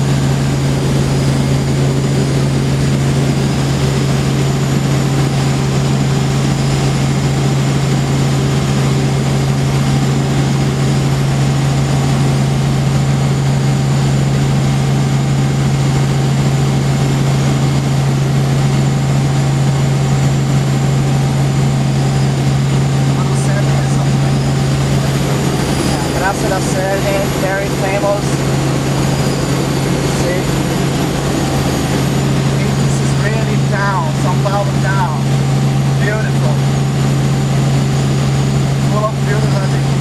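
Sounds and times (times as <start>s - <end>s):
helicopter rotor and engine drone: 0.0s - 40.0s.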